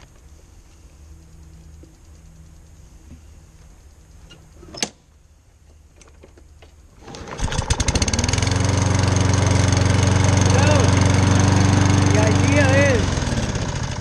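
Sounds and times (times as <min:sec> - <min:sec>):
lawn mower engine starting and running: 0:00.0 - 0:14.0.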